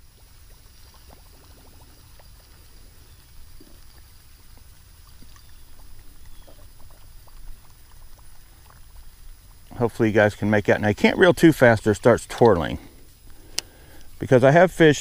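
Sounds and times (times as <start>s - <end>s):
fishing lure gurgling on water: 0.0s - 15.0s.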